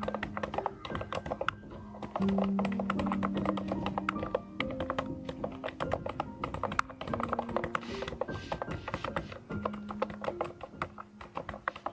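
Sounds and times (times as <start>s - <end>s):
mechanical keyboard typing: 0.0s - 11.9s
soft background music: 0.0s - 11.9s.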